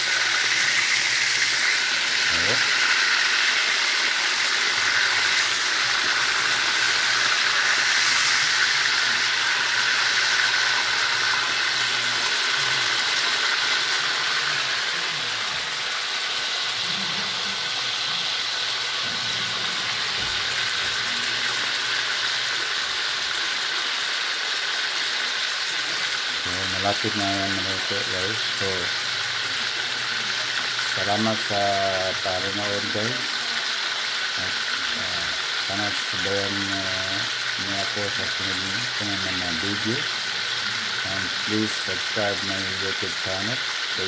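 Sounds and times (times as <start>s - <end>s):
oil bubbling: 0.0s - 36.2s, 42.9s - 44.0s
pork chops sizzling in hot oil: 0.0s - 44.0s.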